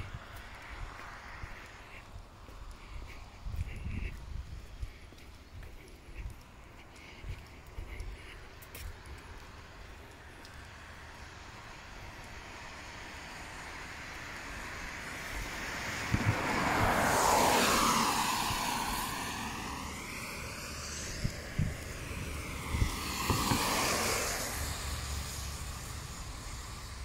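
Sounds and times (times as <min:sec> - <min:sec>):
tyres hissing on wet road: 0:00.1 - 0:05.3, 0:06.5 - 0:27.0.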